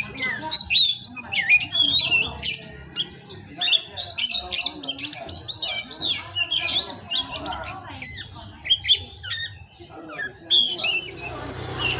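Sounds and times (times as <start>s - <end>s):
bird singing whistles and scratchy notes: 0.0s - 11.9s.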